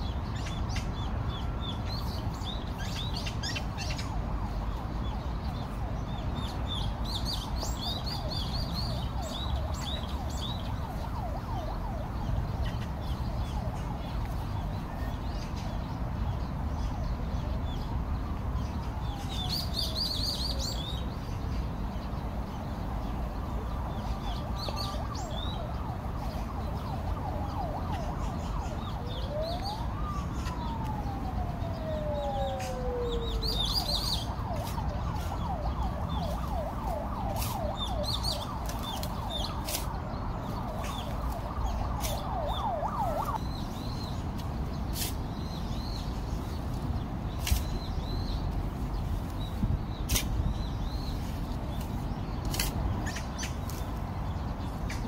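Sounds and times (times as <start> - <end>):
birds chirping: 0.0 - 55.0
low background noise: 0.0 - 55.0
emergency vehicle siren: 1.6 - 55.0.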